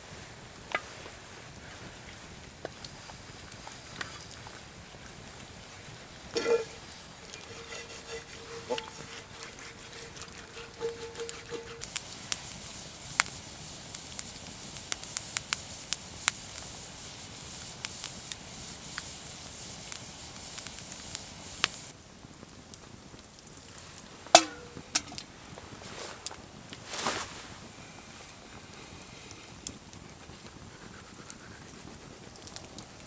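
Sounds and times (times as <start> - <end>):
loud fire crack: 0.0 - 30.6
fire hiss: 0.0 - 33.0
campfire crackling and popping: 0.1 - 26.8, 28.5 - 33.0.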